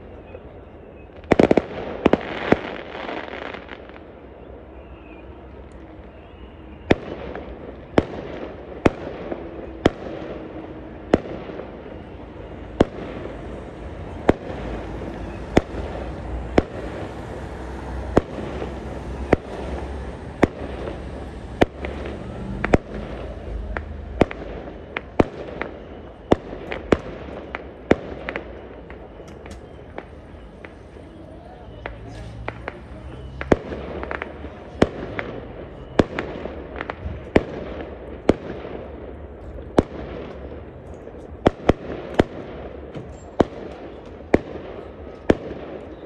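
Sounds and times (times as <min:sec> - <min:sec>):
fireworks bursting with sharp bangs: 0:00.0 - 0:46.0.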